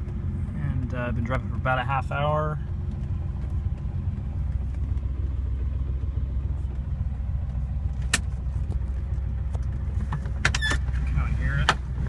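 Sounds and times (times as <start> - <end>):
car engine running: 0.0 - 12.0
engine tapping knock: 0.0 - 12.0.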